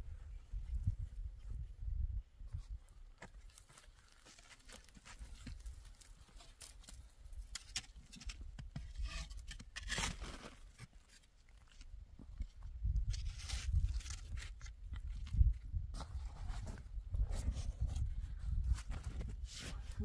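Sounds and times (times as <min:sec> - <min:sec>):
scrapes crunches and rustles: 0:02.5 - 0:20.0.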